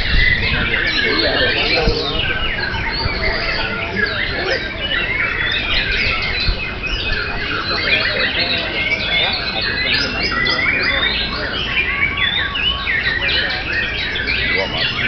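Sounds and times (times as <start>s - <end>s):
birds singing whistles and chatter: 0.0s - 15.0s.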